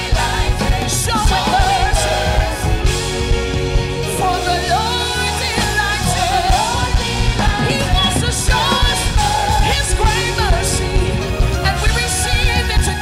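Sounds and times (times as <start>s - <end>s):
backing band with bass and drums: 0.0s - 13.0s.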